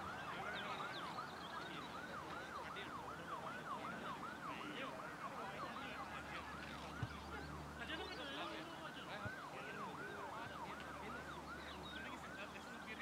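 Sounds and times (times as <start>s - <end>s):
siren in fast yelp mode: 0.0s - 13.0s.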